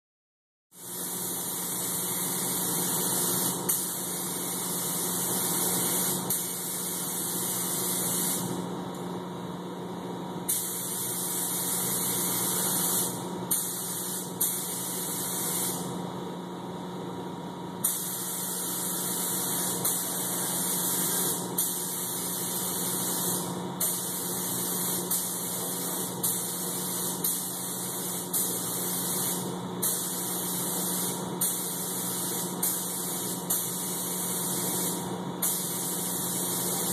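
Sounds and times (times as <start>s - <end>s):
paint spray gun hissing: 0.8s - 8.5s, 10.5s - 15.9s, 17.8s - 36.9s.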